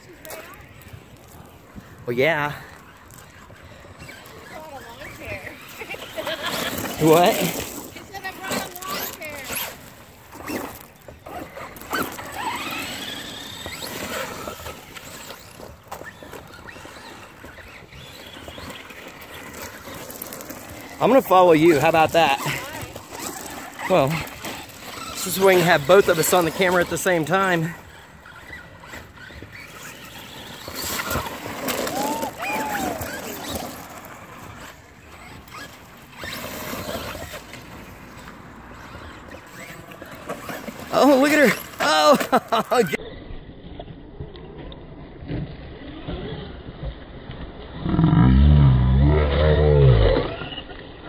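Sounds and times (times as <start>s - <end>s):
tyres churning in mud: 0.0s - 51.0s.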